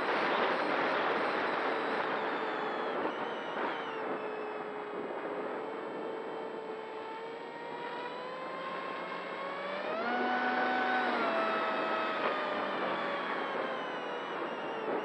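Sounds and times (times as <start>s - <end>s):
electric motor and propeller whining: 0.0s - 15.0s.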